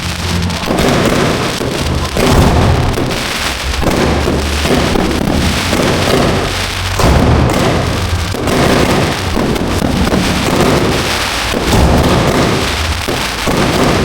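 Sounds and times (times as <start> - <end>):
fireworks bursts rumbling: 0.0 - 14.0
fireworks crackling: 0.0 - 14.0.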